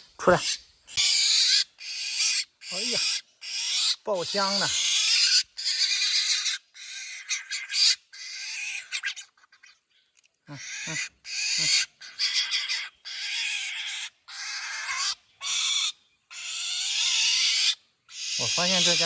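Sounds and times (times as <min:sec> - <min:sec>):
young bird hissing begging calls: 0:00.4 - 0:09.2, 0:10.5 - 0:19.0.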